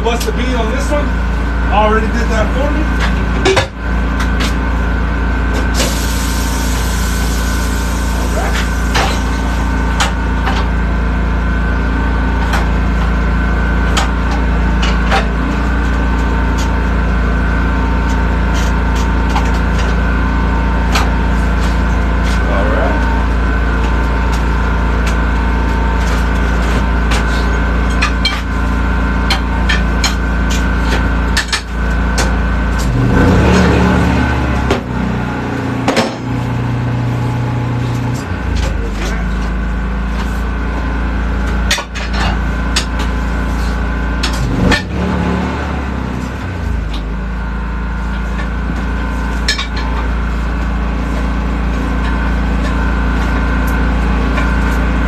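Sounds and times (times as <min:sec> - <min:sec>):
portable generator running: 0:00.0 - 0:55.0.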